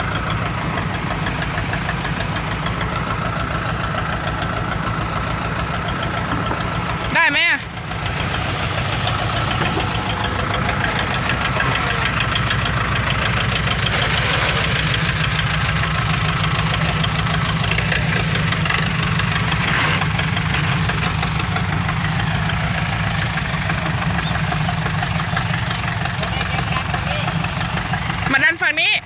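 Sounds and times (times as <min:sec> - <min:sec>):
vehicle engine clattering: 0:00.0 - 0:29.0.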